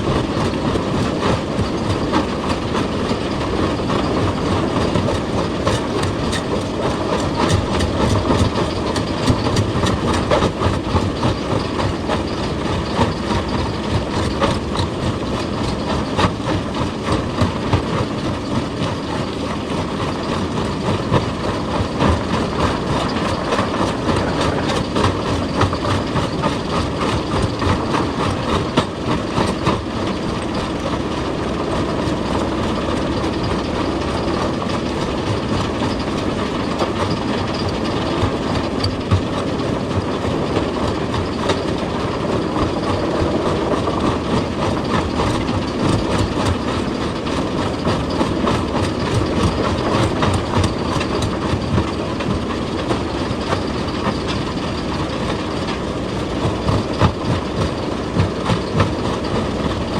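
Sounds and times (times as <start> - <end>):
excavator engine rumble: 0.0 - 59.9.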